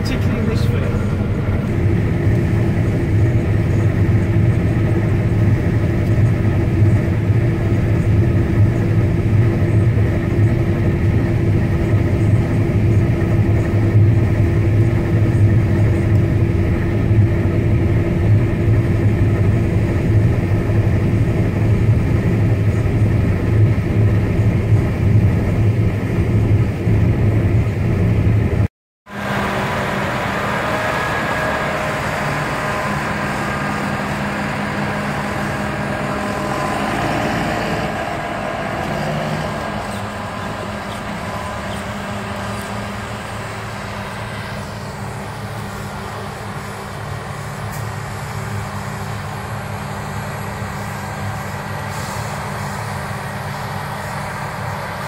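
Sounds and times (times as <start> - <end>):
combine harvester engine drone: 0.0 - 55.0
combine working outdoors: 0.0 - 55.0.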